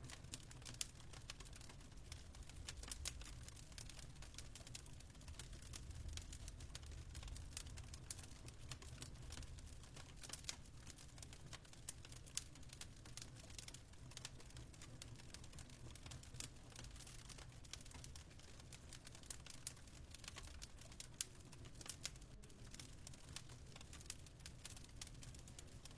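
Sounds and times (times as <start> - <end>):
low fire rumble: 0.0 - 25.9
burning wood popping and snapping: 0.1 - 25.9.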